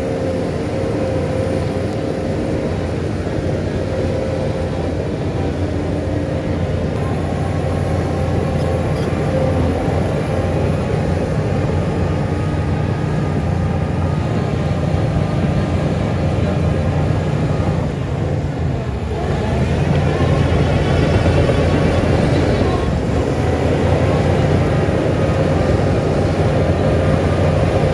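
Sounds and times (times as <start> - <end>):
heavy diesel machinery running: 0.0 - 27.9.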